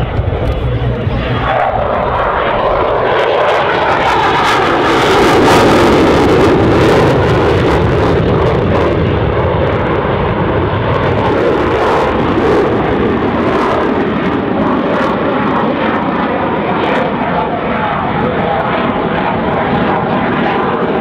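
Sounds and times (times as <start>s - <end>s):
fighter jet engine roar: 0.0s - 21.0s.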